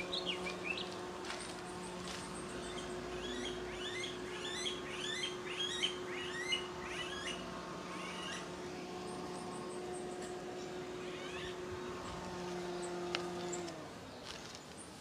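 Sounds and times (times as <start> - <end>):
bird chirping: 0.0 - 15.0
steady low hum: 0.0 - 15.0.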